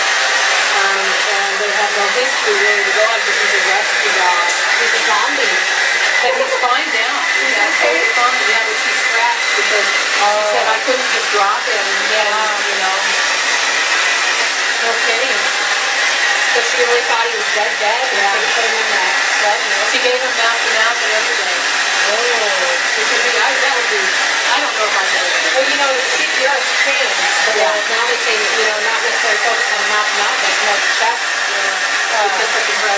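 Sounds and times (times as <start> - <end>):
hair dryer running: 0.0 - 32.9
muffled voices talking: 0.7 - 13.2, 16.5 - 32.9.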